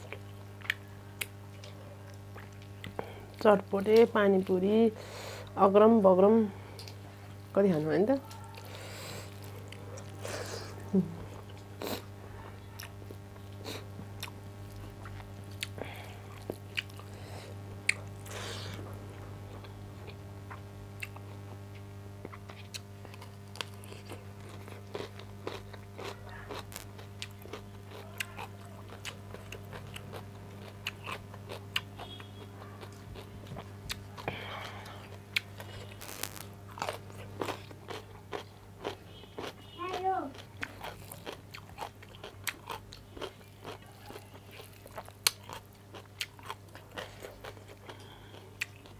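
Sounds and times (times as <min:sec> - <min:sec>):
person chewing and crunching: 0:00.0 - 0:04.6, 0:06.6 - 0:07.4, 0:08.2 - 0:48.9.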